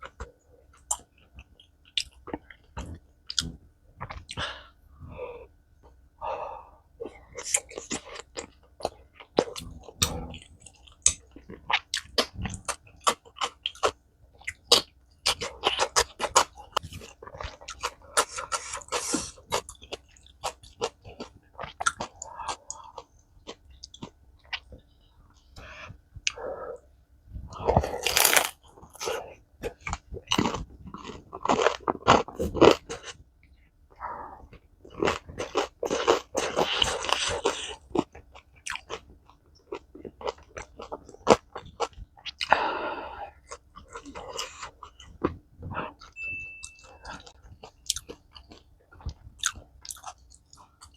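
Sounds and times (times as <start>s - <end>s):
person chewing with crunching bites: 0.0s - 4.8s, 7.0s - 26.8s, 27.4s - 50.9s.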